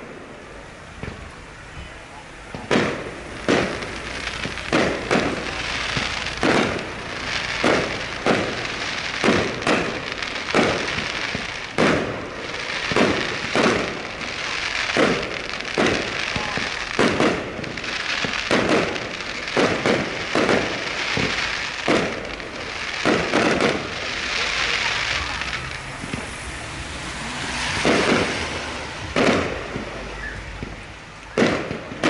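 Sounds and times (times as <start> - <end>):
fireworks crackling: 0.0 - 32.0
firework shell bangs: 2.5 - 14.3, 14.9 - 26.3, 27.1 - 32.0.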